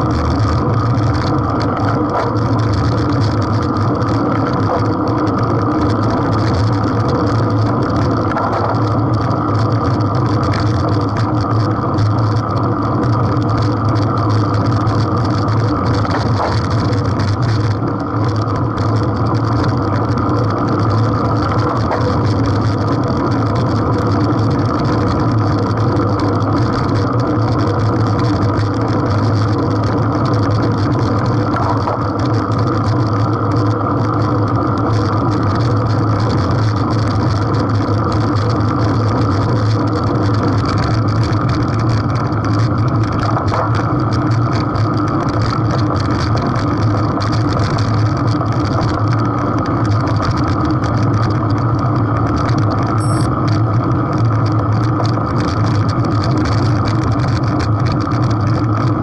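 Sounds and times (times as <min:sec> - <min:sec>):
road rumble from bicycle tyres: 0:00.0 - 0:59.0.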